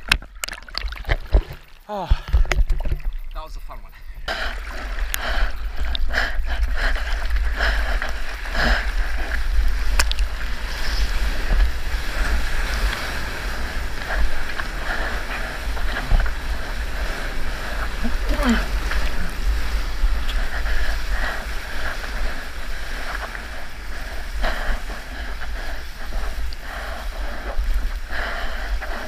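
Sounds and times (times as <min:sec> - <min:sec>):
wind buffeting microphone: 0:02.2 - 0:29.0
whitewater rushing and splashing: 0:04.3 - 0:29.0.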